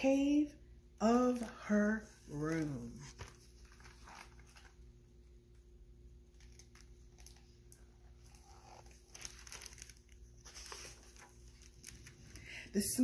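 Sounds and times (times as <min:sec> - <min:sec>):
paper rustling and pages turning: 0:01.2 - 0:05.6, 0:06.2 - 0:12.5.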